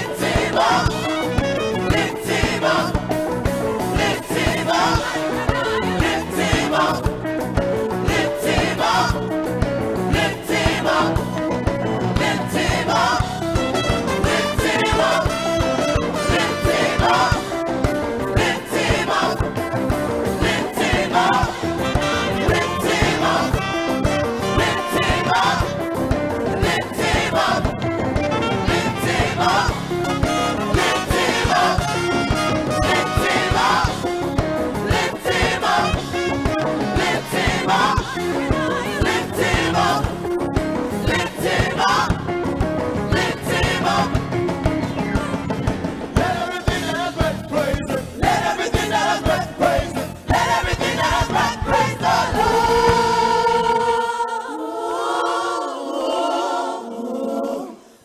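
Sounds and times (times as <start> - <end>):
instrumental backing: 0.0 - 54.2
gospel choir singing: 0.0 - 58.0.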